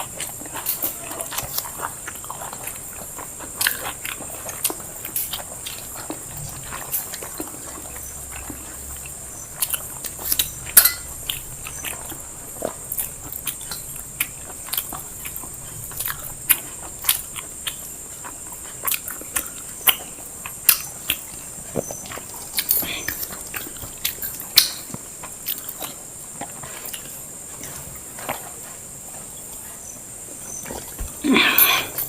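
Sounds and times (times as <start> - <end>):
people chewing with mouth smacks: 0.0 - 32.0.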